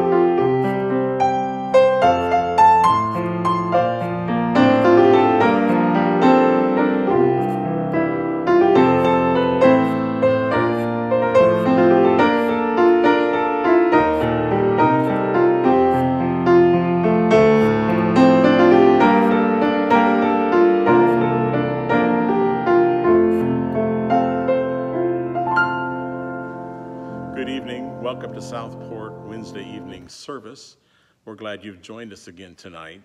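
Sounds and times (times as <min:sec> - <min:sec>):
piano music: 0:00.0 - 0:30.1.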